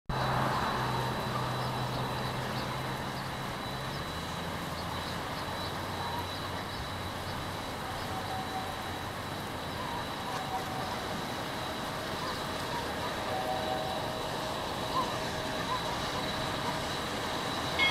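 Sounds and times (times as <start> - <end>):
passing vehicle engine drone: 0.1 - 17.9
road traffic: 0.1 - 17.9.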